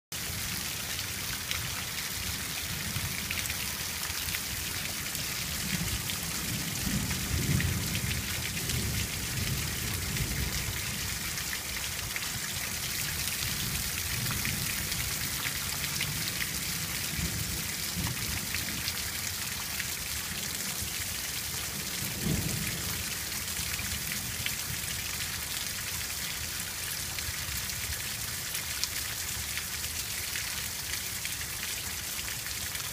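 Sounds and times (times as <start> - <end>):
rain on ground and leaves: 0.1 - 32.9.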